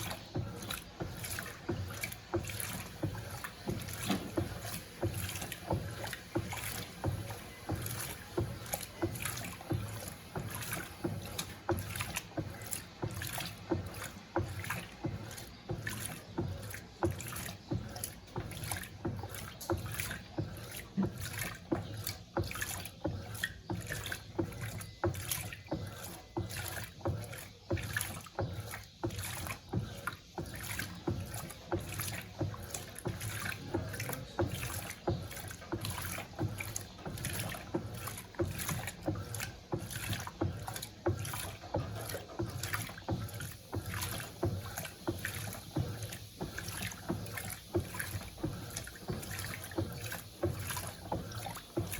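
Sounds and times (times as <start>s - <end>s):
low motor hum: 0.0s - 51.9s
washing machine sloshing water: 0.0s - 51.9s.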